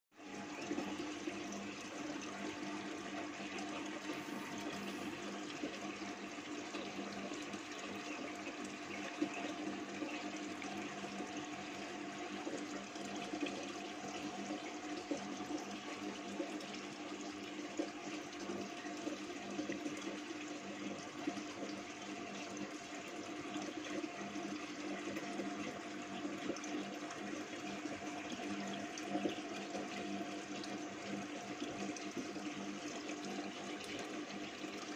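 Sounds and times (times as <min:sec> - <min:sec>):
water splashing in filter: 0:00.2 - 0:34.9.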